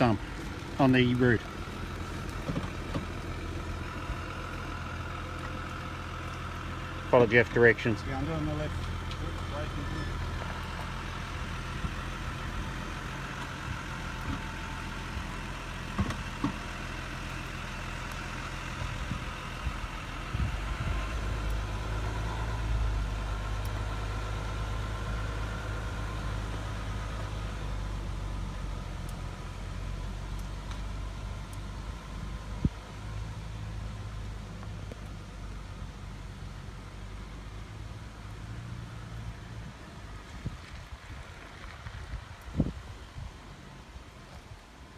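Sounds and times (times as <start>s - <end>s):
car engine at low revs: 0.0s - 44.9s.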